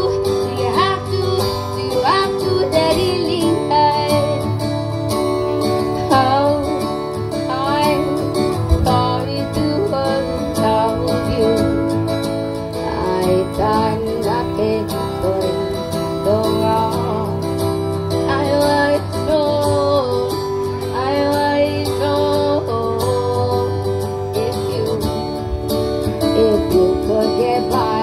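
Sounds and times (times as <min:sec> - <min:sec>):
guitar accompaniment: 0:00.0 - 0:28.0
woman singing into microphone: 0:00.0 - 0:28.0.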